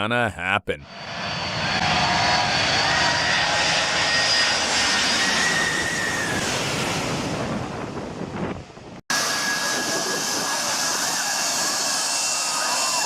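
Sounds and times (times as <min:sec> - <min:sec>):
jet airliner passing overhead: 0:00.8 - 0:13.0
jet engine whine: 0:00.8 - 0:13.0.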